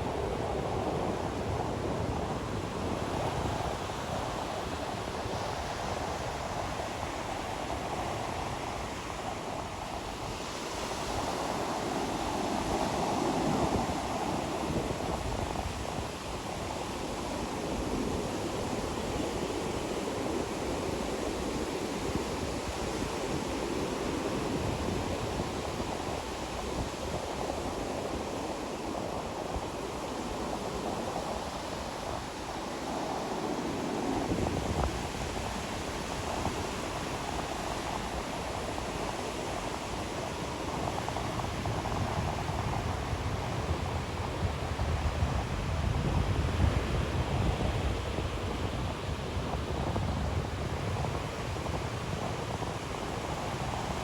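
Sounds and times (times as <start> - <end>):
ocean surf on beach: 0.0 - 54.0.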